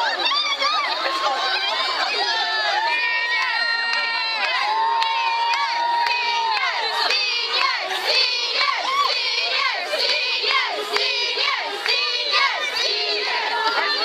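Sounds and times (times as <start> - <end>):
crowd of women shouting and cheering: 0.0 - 14.0.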